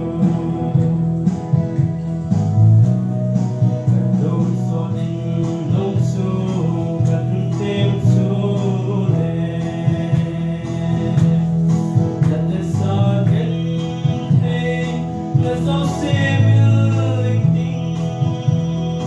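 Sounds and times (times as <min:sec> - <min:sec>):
man singing gospel: 0:00.0 - 0:01.9, 0:03.6 - 0:19.0
instrumental backing: 0:00.0 - 0:19.0.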